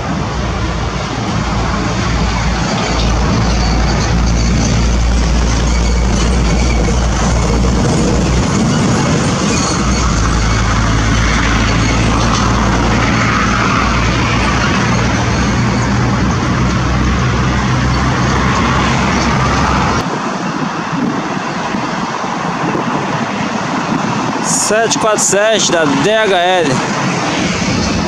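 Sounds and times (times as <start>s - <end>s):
heavy vehicle engine rumble: 0.0s - 24.5s
road traffic: 0.0s - 28.0s.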